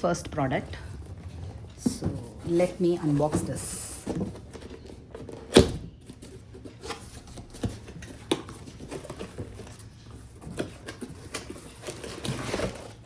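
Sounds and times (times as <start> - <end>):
cardboard box rustling: 0.4 - 13.0.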